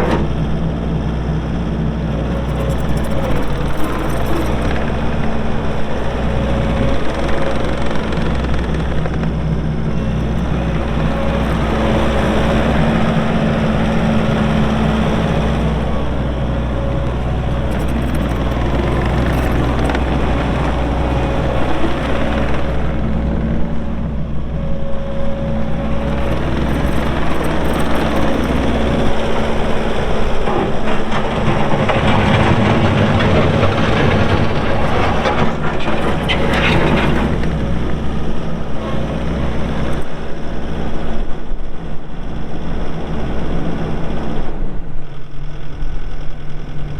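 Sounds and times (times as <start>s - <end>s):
hydraulic whine: 0.0s - 40.3s
diesel engine running: 0.0s - 46.9s.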